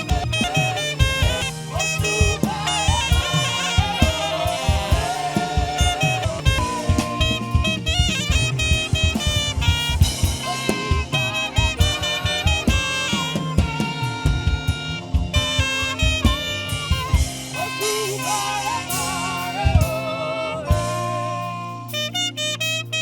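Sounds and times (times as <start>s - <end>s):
live band with drum beat: 0.0s - 23.0s
saxophone melody: 0.0s - 23.0s.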